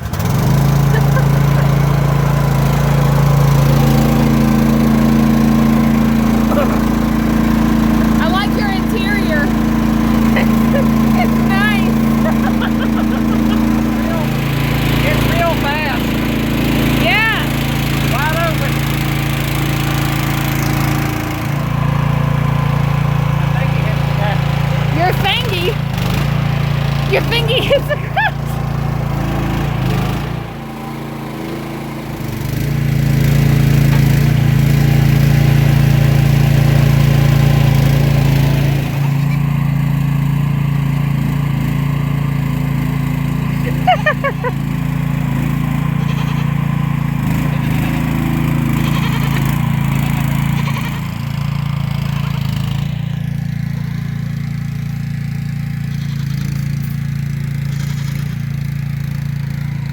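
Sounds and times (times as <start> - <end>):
small excavator engine running: 0.0 - 59.9.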